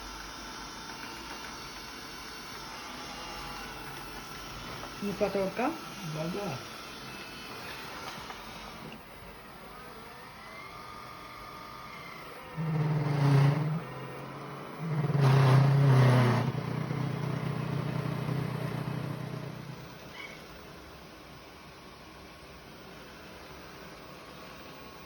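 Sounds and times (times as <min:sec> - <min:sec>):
robot vacuum motor humming: 0:00.0 - 0:20.6.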